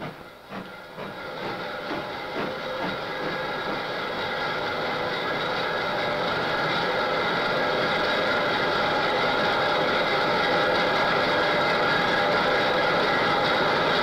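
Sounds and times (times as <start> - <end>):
steam locomotive mechanical running: 0.0 - 14.0.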